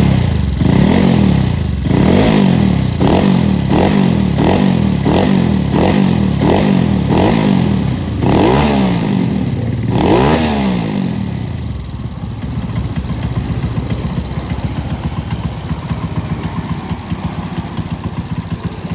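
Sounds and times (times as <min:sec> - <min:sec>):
scooter engine revving and idling: 0:00.0 - 0:18.9.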